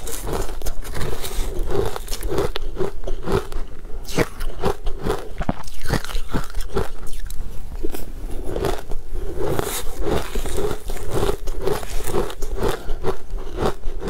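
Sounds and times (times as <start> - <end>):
ice crunched between teeth: 0.0 - 13.8.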